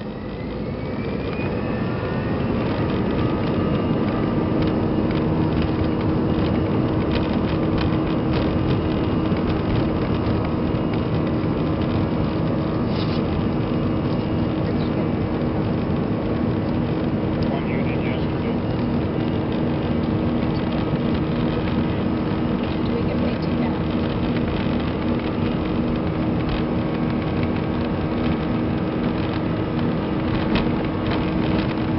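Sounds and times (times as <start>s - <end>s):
jet engines spooling up: 0.0s - 31.9s
light rattling in cabin: 2.3s - 31.9s.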